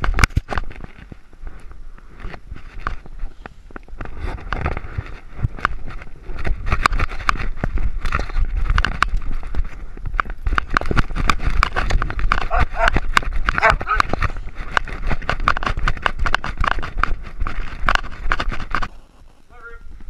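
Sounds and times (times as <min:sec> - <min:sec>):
camera knocking and rubbing: 0:00.0 - 0:20.0
wind rumble: 0:00.0 - 0:20.0.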